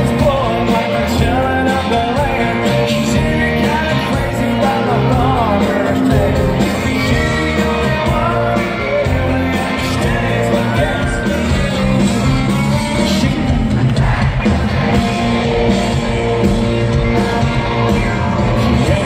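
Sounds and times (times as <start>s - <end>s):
man singing: 0.0s - 14.5s, 17.1s - 19.0s
live country band playing: 0.0s - 19.0s.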